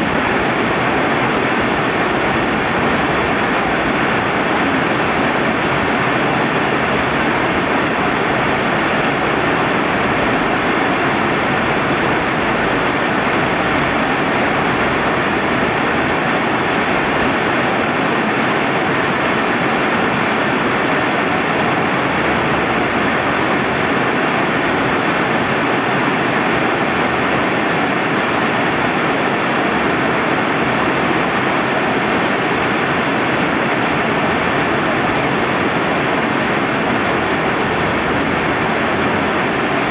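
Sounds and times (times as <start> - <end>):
rain falling: 0.0 - 39.9
river flowing: 0.0 - 39.9.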